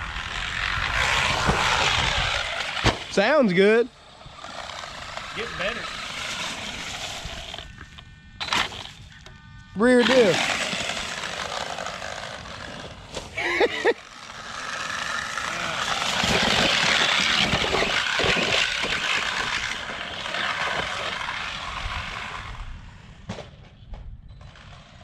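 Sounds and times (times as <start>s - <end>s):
electric motor whining: 0.0s - 23.3s.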